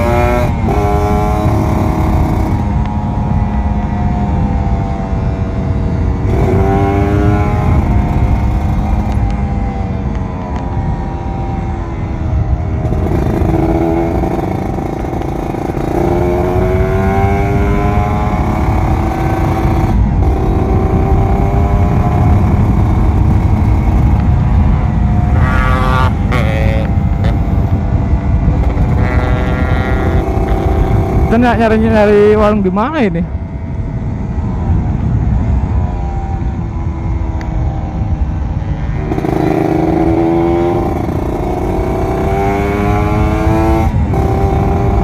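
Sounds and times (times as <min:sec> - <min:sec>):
two-stroke motorcycle engine: 0:00.0 - 0:33.3, 0:37.9 - 0:45.0
wind on microphone: 0:00.0 - 0:45.0.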